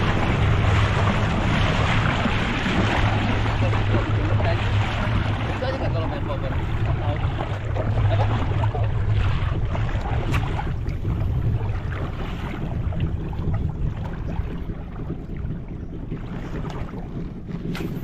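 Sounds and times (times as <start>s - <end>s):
steady low rumble: 0.0s - 18.0s
water washing against a hull: 0.0s - 18.0s
wind on the microphone: 0.0s - 18.0s.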